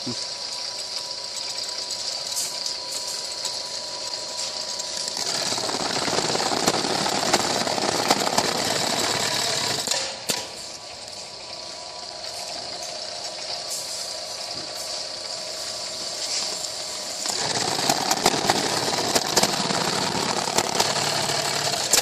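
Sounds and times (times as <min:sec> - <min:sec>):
bag closing machine hiss and hum: 0:00.0 - 0:22.0.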